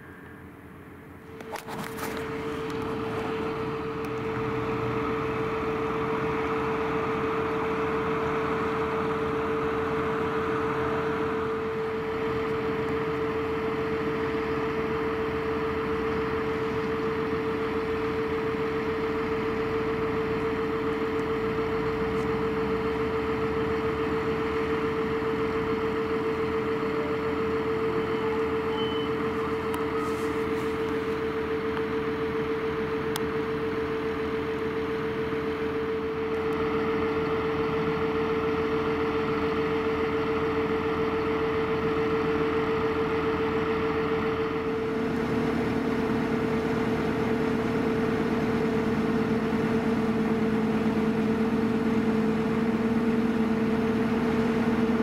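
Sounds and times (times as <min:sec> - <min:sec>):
tractor engine whining: 0:00.0 - 0:55.0.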